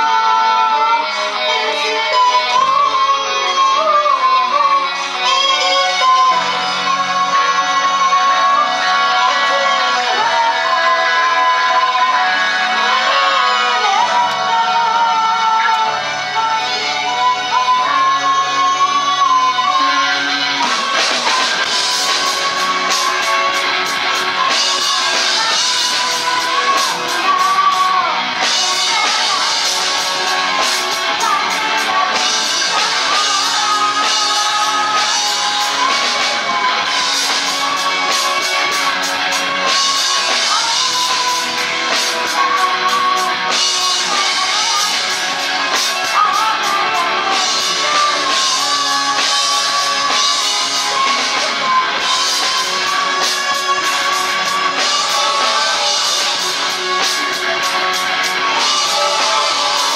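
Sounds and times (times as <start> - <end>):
bass guitar: 0.0 - 59.9
drum kit: 0.0 - 59.9
electric guitar: 0.0 - 59.9
person singing: 0.0 - 59.9.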